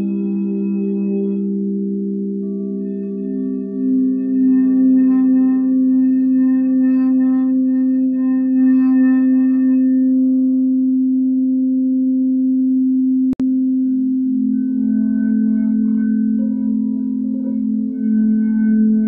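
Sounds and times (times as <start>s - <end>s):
crystal singing bowls ringing: 0.0s - 11.0s, 13.6s - 19.0s.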